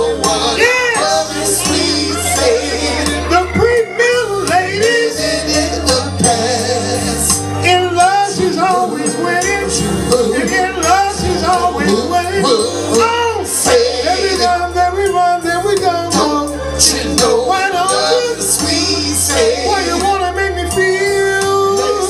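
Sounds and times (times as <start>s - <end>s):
bass line: 0.0s - 22.0s
male vocal group singing: 0.0s - 22.0s.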